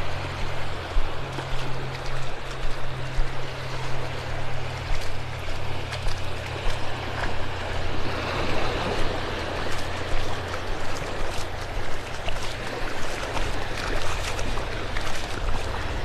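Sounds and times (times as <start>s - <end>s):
beach surf washing: 0.0s - 16.0s
soft footsteps on shore: 0.0s - 16.0s.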